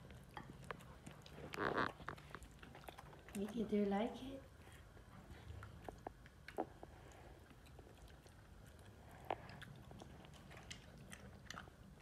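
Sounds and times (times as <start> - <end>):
dog chewing: 0.0 - 12.0.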